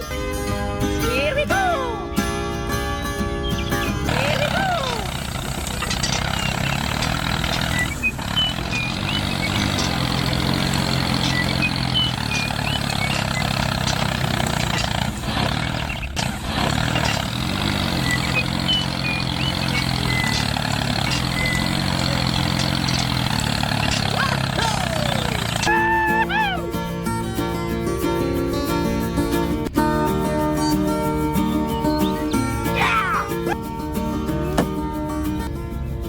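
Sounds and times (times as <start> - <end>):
small engine idling: 2.2 - 36.0.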